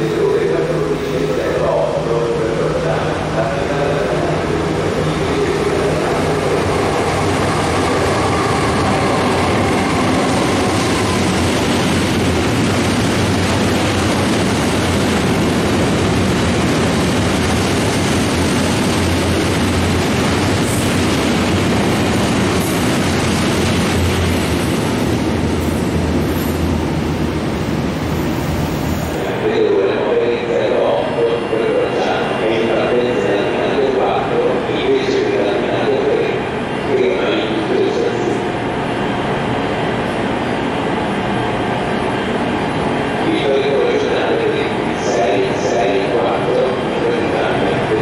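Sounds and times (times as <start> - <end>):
freight train passing: 0.0 - 48.0.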